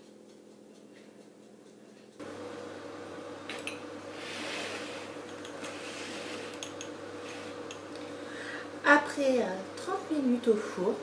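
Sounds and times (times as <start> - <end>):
steady hum: 1.4 - 11.0.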